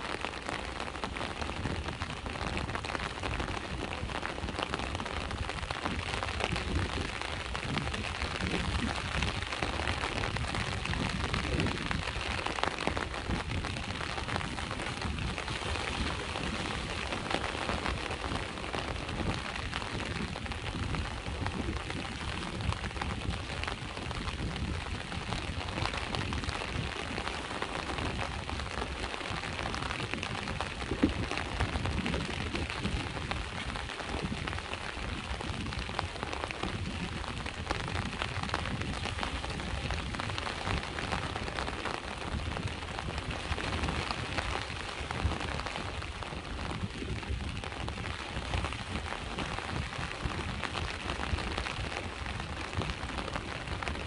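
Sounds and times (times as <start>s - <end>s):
rain pattering: 0.0s - 54.0s
sea waves rumbling: 0.0s - 54.0s.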